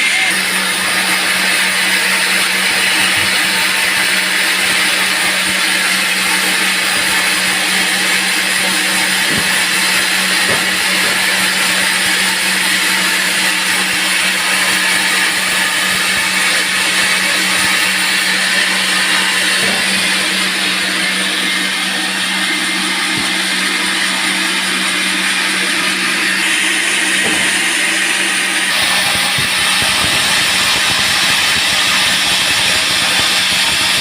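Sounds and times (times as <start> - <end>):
band saw cutting log: 0.0 - 34.0
low motor hum: 0.0 - 34.0.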